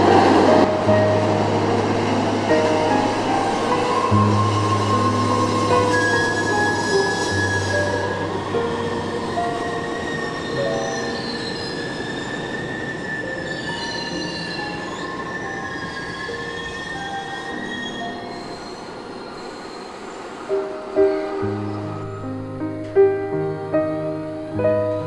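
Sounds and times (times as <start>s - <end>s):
wheel squeals on rail: 0.0s - 23.4s
high train whine: 0.0s - 25.0s
subway train rumbling: 0.0s - 25.0s.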